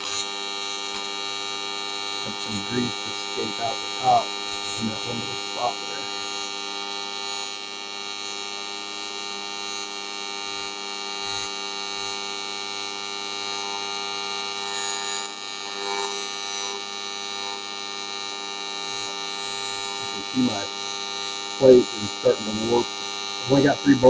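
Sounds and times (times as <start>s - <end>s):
welding arc buzzing: 0.0s - 24.0s.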